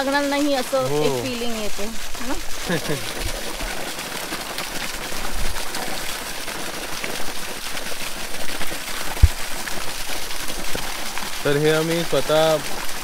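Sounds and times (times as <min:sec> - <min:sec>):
water gushing from a pipe: 0:00.0 - 0:13.0.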